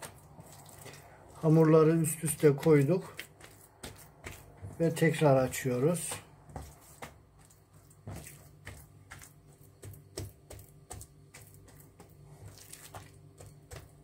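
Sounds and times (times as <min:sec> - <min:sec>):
hands squishing dough: 0:00.0 - 0:14.0.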